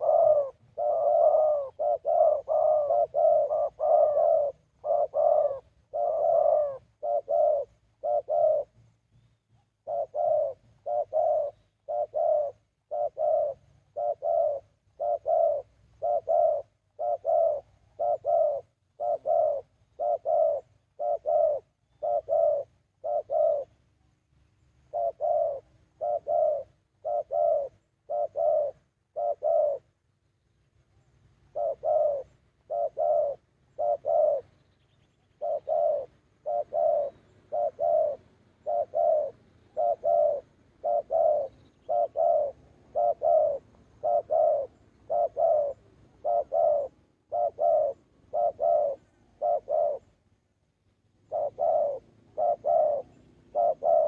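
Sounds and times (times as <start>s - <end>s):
dove cooing: 0.0s - 30.0s, 30.9s - 50.3s, 51.1s - 54.0s.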